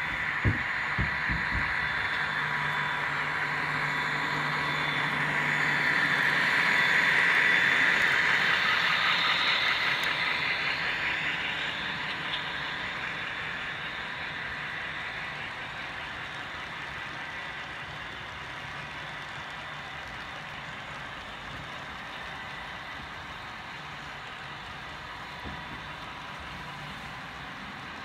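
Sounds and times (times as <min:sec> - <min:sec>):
model train rolling on track: 0:00.0 - 0:28.0.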